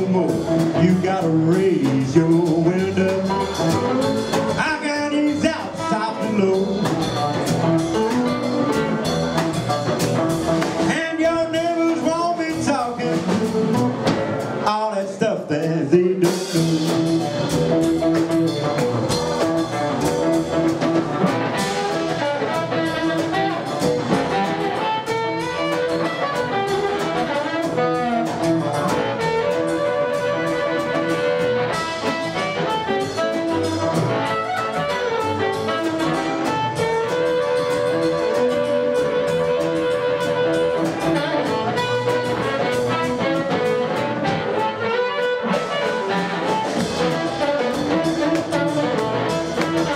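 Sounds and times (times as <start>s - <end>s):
blues harmonica solo: 0.0s - 14.1s, 16.4s - 49.9s
double bass: 0.0s - 49.9s
drums: 0.0s - 49.9s
electric guitar: 0.0s - 49.9s.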